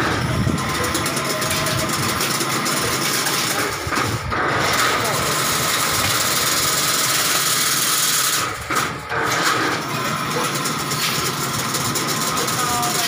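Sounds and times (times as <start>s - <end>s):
fencing machine clattering: 0.0s - 13.0s.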